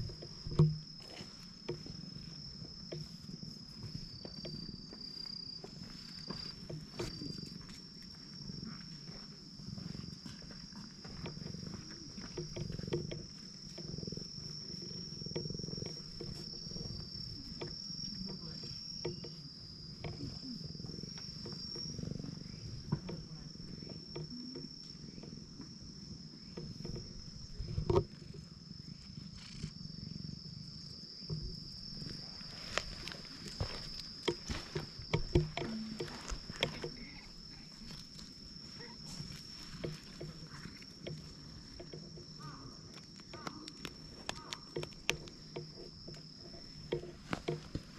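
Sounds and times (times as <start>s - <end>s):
cat purring: 0.0s - 41.9s.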